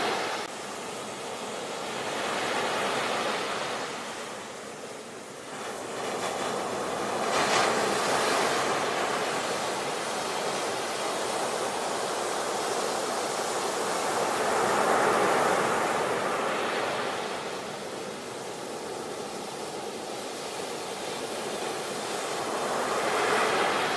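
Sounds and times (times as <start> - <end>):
sea waves breaking on beach: 0.0 - 23.9.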